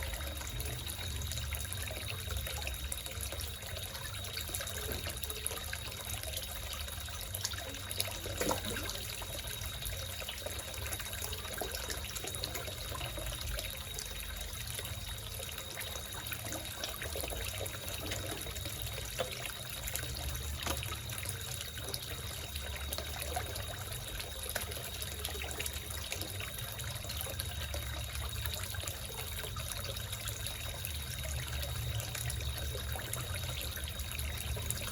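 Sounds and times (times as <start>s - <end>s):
steady high-pitched tone: 0.0s - 34.9s
water trickling into a pond: 0.0s - 34.9s.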